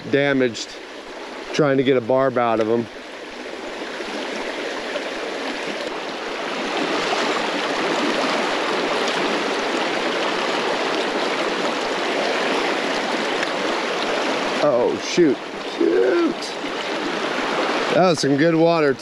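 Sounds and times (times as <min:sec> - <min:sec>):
creek running over rocks: 0:00.0 - 0:19.0.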